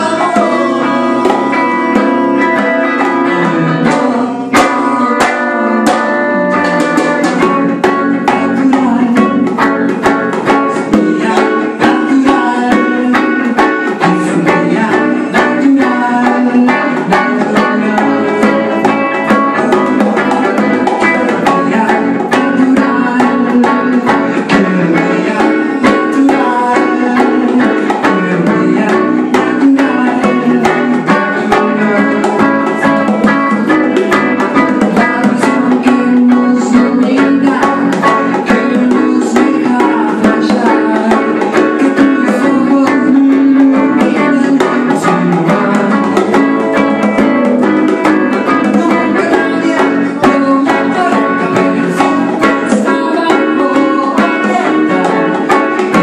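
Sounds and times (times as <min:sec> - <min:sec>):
bass guitar: 0:00.0 - 0:56.0
bongos: 0:00.0 - 0:56.0
drum strikes: 0:00.0 - 0:56.0
electric guitar: 0:00.0 - 0:56.0.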